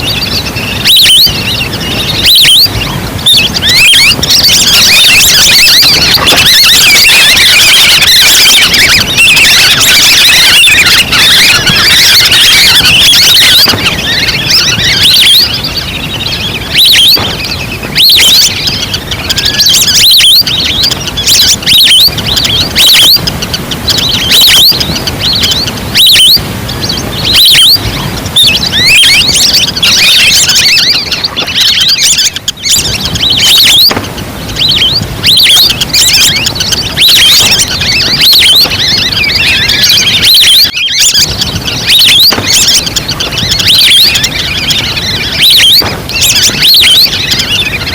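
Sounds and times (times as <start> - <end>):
recorded duck calls: 0.0 - 47.9.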